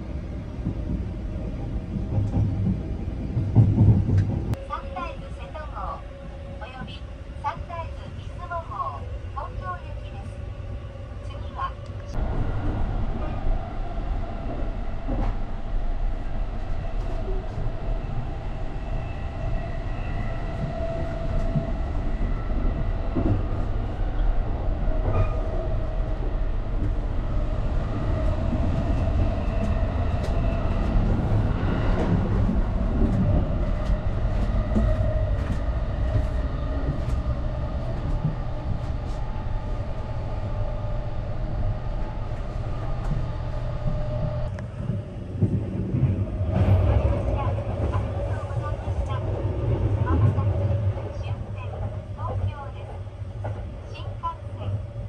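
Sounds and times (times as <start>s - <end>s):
train wheels rumbling on rail: 0.0s - 10.3s, 11.2s - 55.0s.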